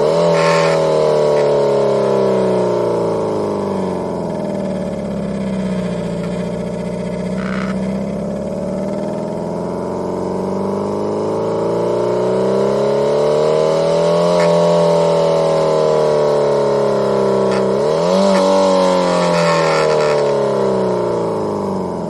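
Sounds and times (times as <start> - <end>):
simulated engine note: 0.0 - 22.0.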